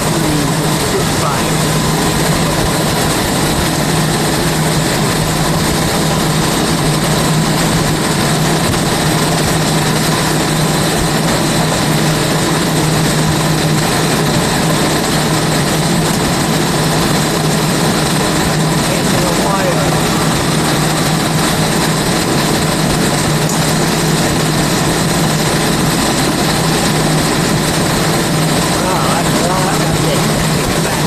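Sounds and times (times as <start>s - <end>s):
dehumidifier and fans roaring: 0.0s - 31.0s.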